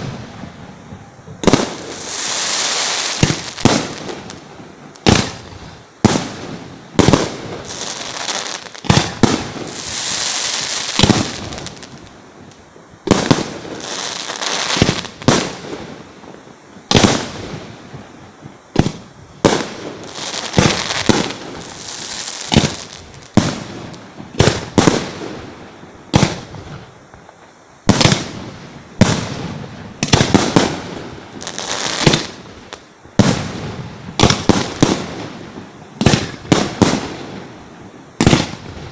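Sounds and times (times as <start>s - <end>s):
fireworks crackling and hissing: 0.0s - 38.9s.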